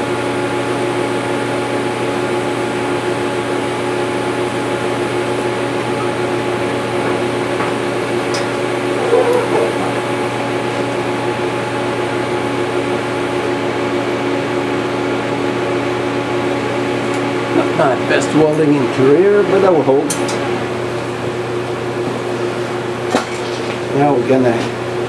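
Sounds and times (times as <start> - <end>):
arc welder humming and hissing: 0.0 - 25.0.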